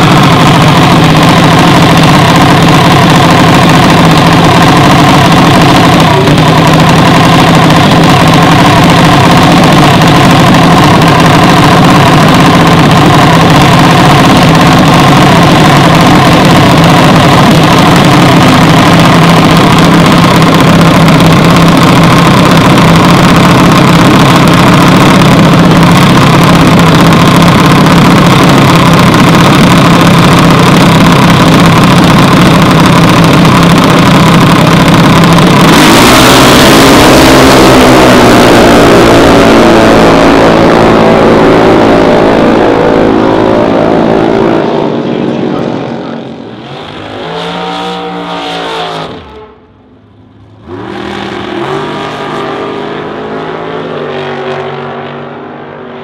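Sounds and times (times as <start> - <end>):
single-cylinder engine idling: 0.0 - 46.6.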